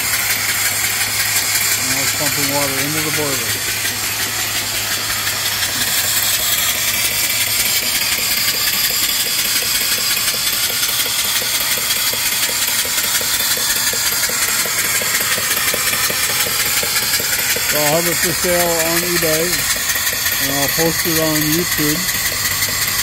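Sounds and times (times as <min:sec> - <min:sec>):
pump low hum: 0:00.0 - 0:23.0
steam engine rhythmic beat: 0:00.0 - 0:23.0
steam hissing from boiler: 0:00.0 - 0:23.0.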